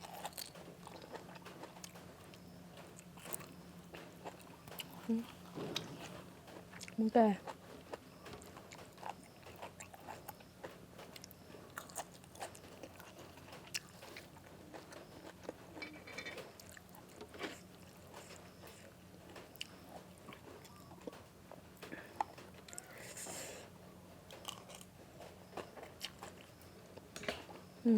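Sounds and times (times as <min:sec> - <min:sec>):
person chewing crunchy food: 0:00.0 - 0:21.2, 0:21.8 - 0:27.5
faint steady hum: 0:00.0 - 0:27.9.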